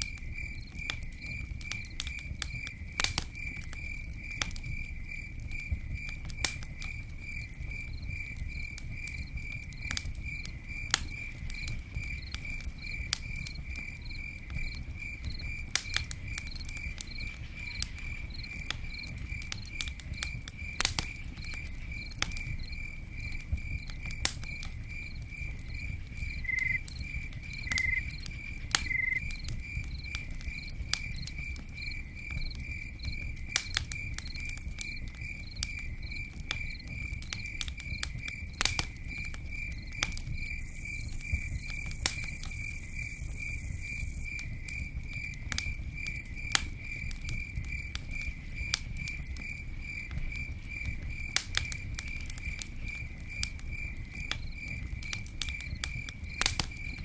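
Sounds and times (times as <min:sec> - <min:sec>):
campfire crackling and popping: 0:00.0 - 0:57.0
cricket chirping: 0:00.0 - 0:57.0.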